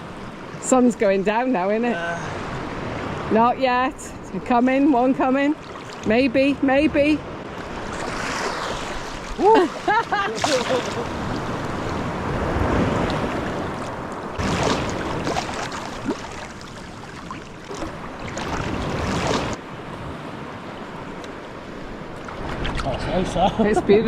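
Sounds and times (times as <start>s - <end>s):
sea waves breaking: 0.0s - 23.1s
wind on microphone: 2.5s - 23.4s.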